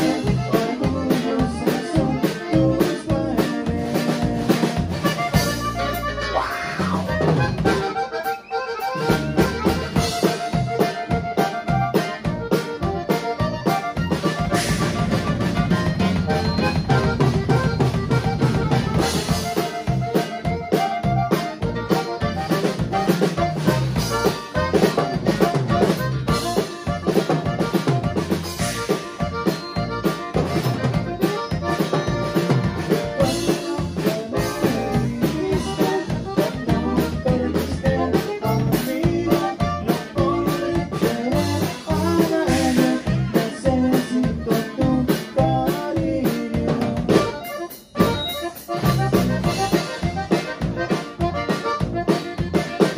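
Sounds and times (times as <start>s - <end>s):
button accordion melody: 0.0s - 52.9s
drum kit beat: 0.0s - 52.9s
electric bass: 0.0s - 52.9s
guitar: 0.0s - 52.9s.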